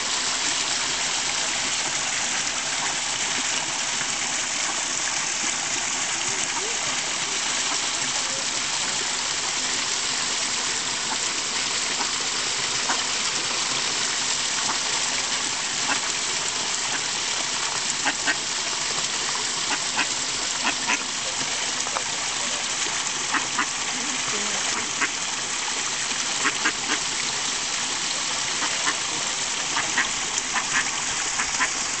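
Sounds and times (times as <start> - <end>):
running water: 0.0 - 32.0.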